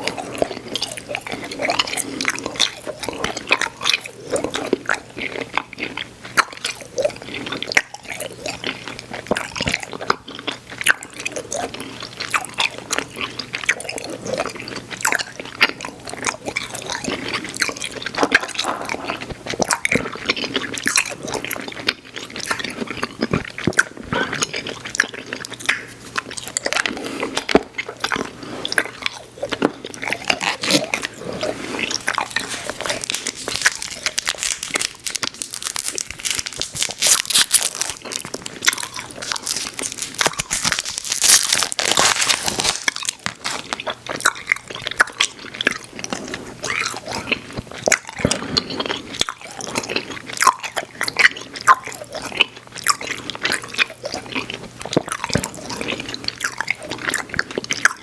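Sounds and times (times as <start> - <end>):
mouth chewing chewy candy: 0.0 - 58.0.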